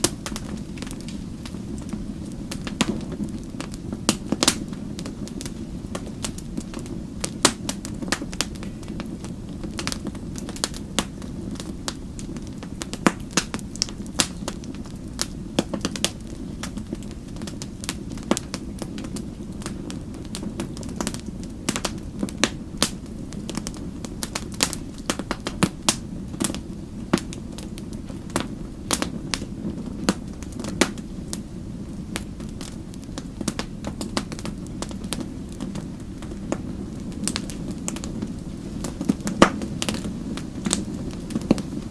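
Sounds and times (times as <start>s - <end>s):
fireplace fire crackling: 0.0s - 41.9s.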